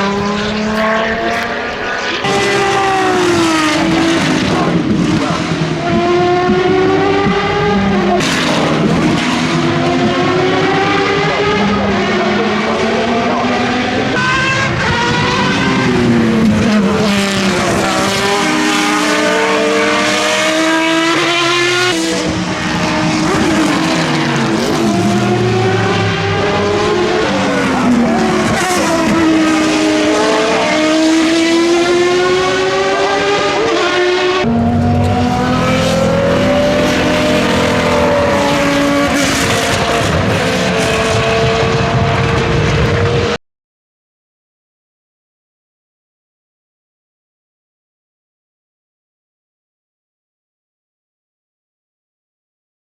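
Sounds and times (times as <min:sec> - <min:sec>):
racing car engine revving: 0:00.0 - 0:43.4.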